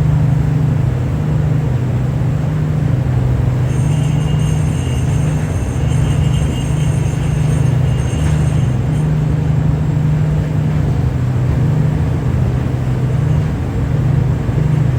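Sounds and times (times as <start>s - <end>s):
ship's engine droning: 0.0s - 14.9s.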